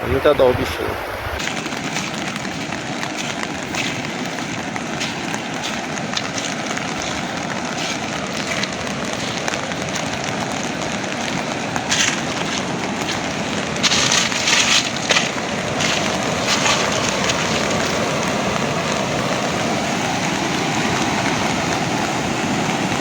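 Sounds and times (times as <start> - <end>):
hissing water surges: 0.0 - 23.0
river water rushing: 0.0 - 23.0.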